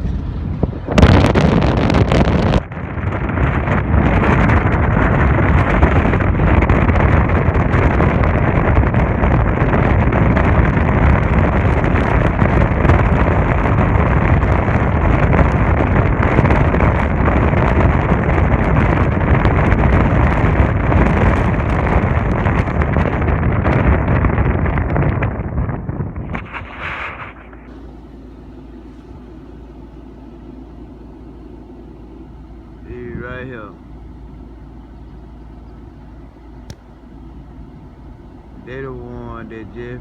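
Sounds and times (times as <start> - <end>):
wind on microphone: 0.0 - 40.0.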